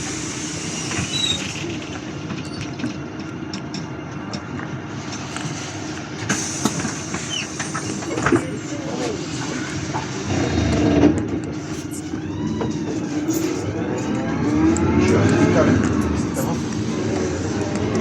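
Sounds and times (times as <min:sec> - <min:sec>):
bus engine hum: 0:00.0 - 0:18.0
road rumble: 0:00.0 - 0:18.0.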